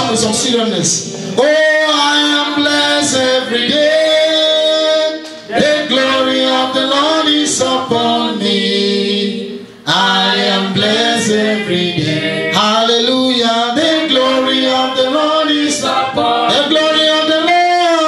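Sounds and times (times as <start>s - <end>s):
congregation singing a cappella: 0.0s - 18.0s
man singing into a microphone: 1.4s - 18.0s.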